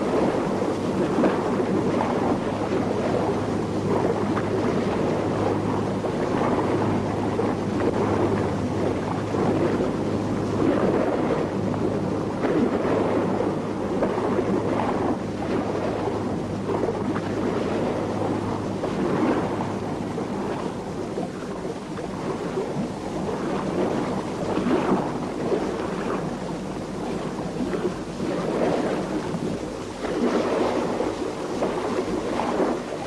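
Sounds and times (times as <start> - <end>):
sea water rushing and splashing: 0.0 - 33.0.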